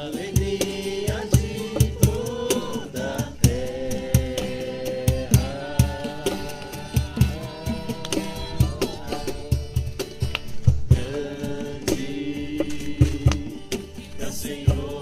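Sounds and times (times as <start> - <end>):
people singing: 0.0 - 15.0
steady drum beat: 0.0 - 15.0
worship band music: 0.0 - 15.0.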